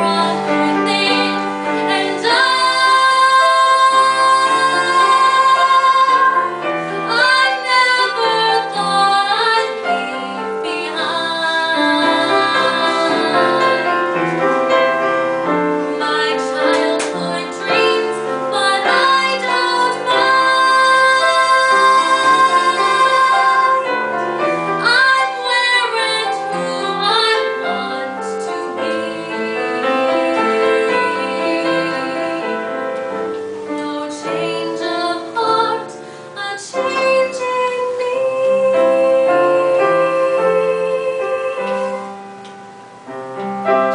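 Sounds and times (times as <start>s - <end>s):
woman singing: 0.0s - 14.2s, 15.9s - 32.9s, 33.6s - 42.2s
piano accompaniment: 0.0s - 43.9s.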